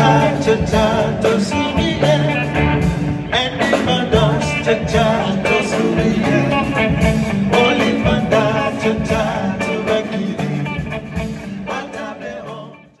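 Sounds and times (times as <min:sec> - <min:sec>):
song with guitar and beat: 0:00.0 - 0:13.0.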